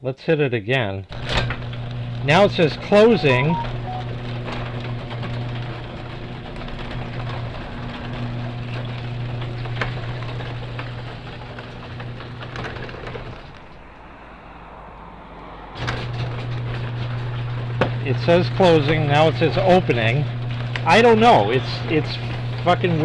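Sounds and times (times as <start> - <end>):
garage door rattling and clicking: 1.1 - 3.2, 4.2 - 14.0, 15.8 - 23.0
garage door motor hum: 1.1 - 3.4, 4.0 - 14.0, 15.8 - 23.0.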